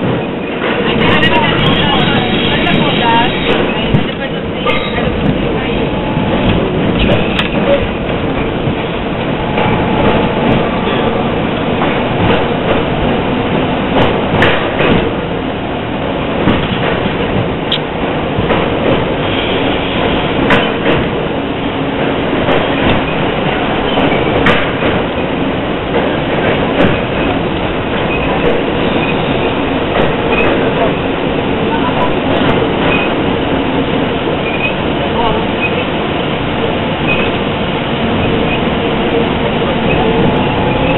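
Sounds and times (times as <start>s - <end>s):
subway car rumbling in tunnel: 0.0s - 40.9s.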